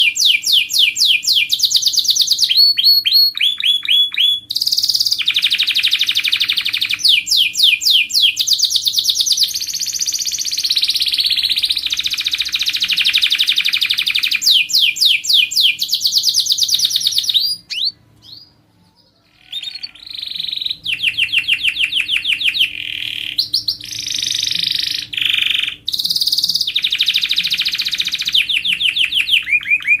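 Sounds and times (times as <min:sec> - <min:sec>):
canary singing trills: 0:00.0 - 0:30.0
faint steady hum: 0:00.0 - 0:30.0.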